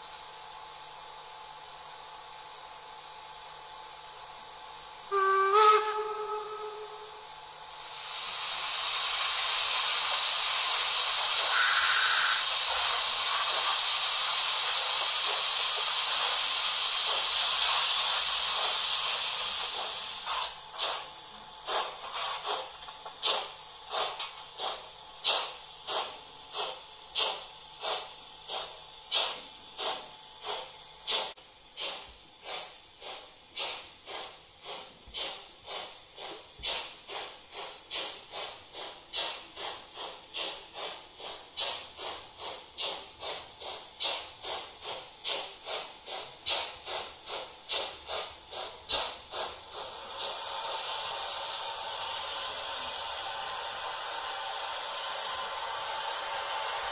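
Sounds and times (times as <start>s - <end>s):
steam hiss from small loudspeaker: 4.2s - 56.9s.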